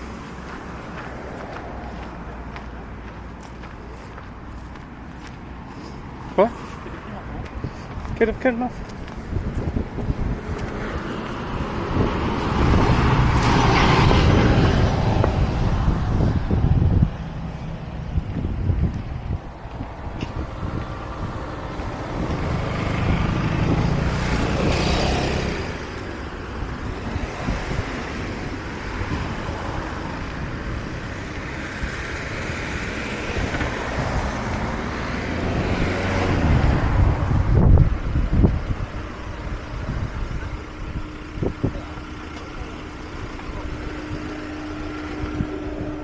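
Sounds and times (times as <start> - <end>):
road traffic noise: 0.0 - 46.0
vehicles passing: 0.0 - 46.0.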